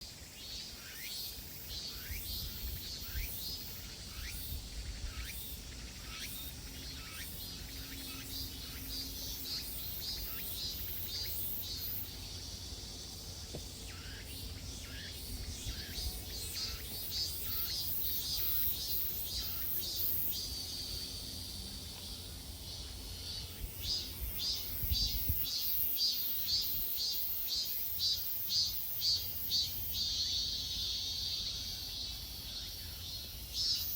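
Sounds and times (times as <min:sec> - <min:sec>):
cicadas buzzing: 0:00.0 - 0:33.9.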